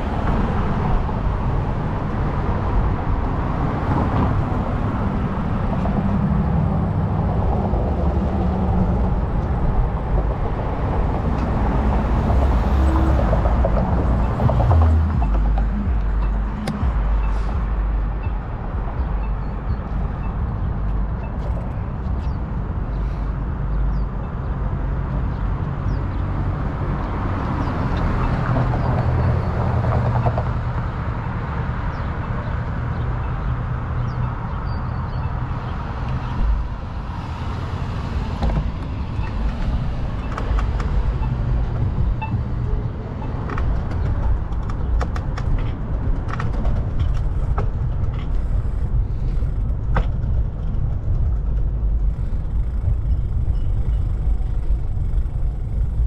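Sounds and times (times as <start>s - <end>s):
louder vehicle passing: 0.0s - 46.2s
city street traffic rumble: 0.0s - 56.0s.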